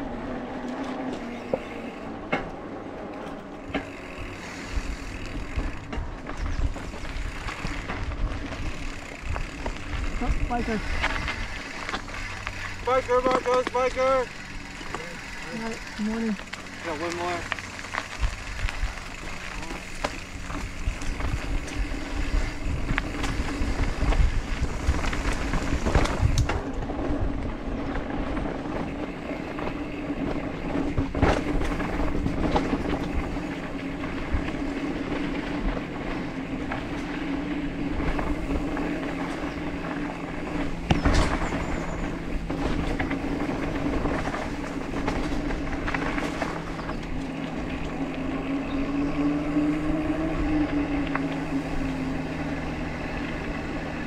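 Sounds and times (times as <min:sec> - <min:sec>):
bike rattling: 0:00.0 - 0:54.0
bike tyres rolling on dirt: 0:00.0 - 0:54.0
freehub buzzing: 0:00.0 - 0:54.0.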